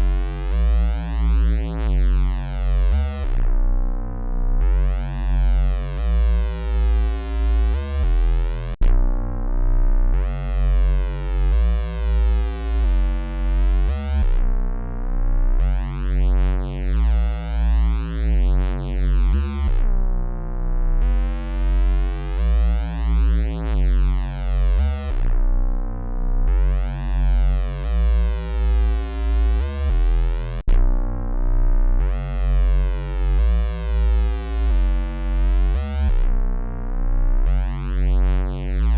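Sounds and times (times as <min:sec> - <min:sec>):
electronic bass line: 0:00.0 - 0:38.9.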